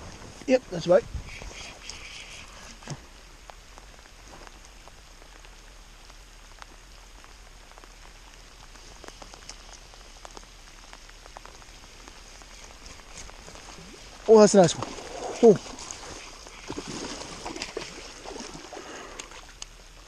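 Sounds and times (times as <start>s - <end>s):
light rain hissing: 0.0s - 20.0s
raindrops ticking: 1.6s - 20.0s.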